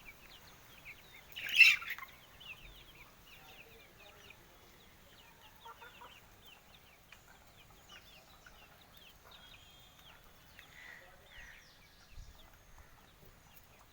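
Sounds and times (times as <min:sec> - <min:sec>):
chicken clucks: 0:00.0 - 0:13.9
chickens chirping: 0:00.0 - 0:13.9.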